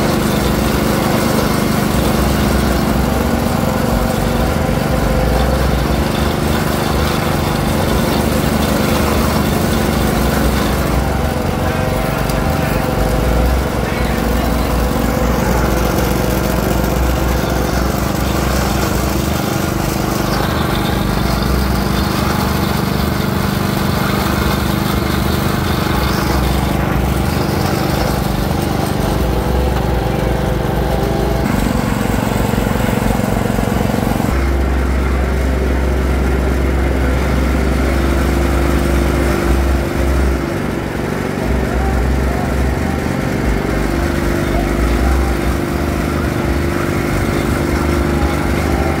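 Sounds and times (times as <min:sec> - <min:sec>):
juice press mechanical drone: 0:00.0 - 0:49.0.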